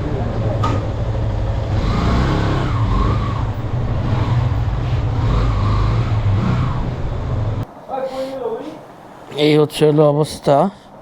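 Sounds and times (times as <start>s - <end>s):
traffic engines droning: 0.0s - 11.0s.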